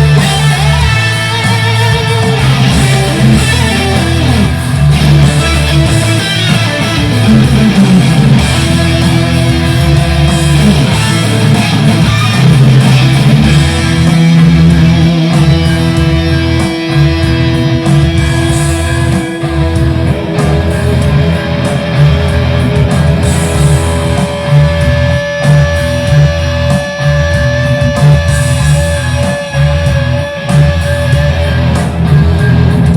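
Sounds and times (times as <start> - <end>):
electric guitar heavy rock tone: 0.0 - 32.9.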